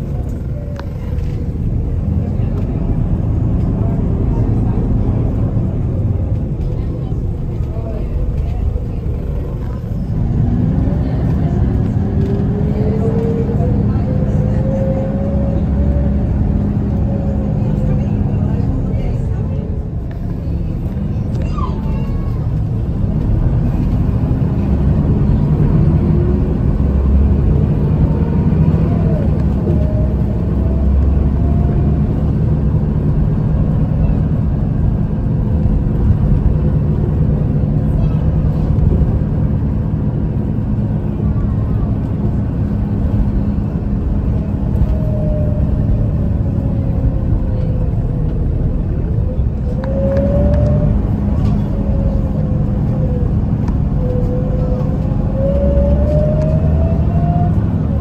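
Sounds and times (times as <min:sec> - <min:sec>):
bus engine rumble: 0:00.0 - 0:58.0
drivetrain whine: 0:00.0 - 0:58.0.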